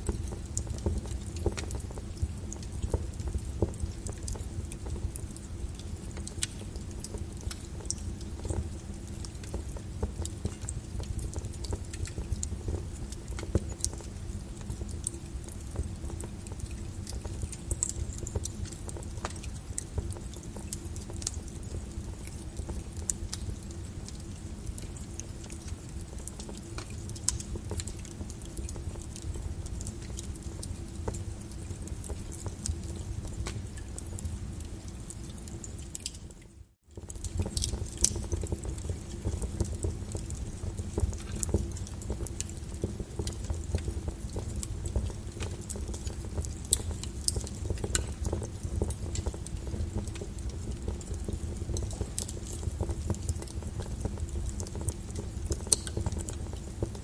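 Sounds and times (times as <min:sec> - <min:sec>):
fire crackling and popping: 0:00.0 - 0:57.0
rain rumbling: 0:00.0 - 0:57.0.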